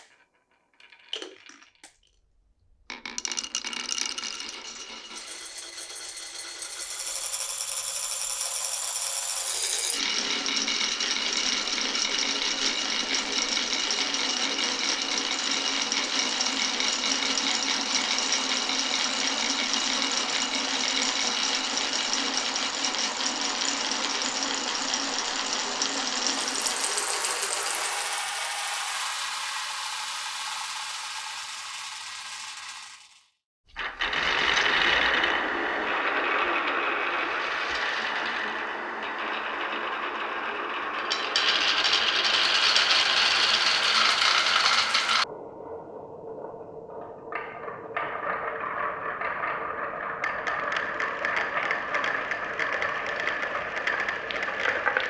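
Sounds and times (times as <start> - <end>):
marbles rattling along tracks: 0.8 - 2.2, 2.9 - 45.3, 48.2 - 55.0.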